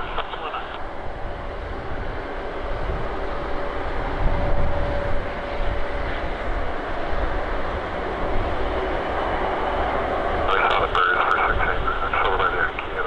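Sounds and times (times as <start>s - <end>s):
faint steady whine: 0.0s - 13.0s
jet engine rumble: 0.0s - 13.0s.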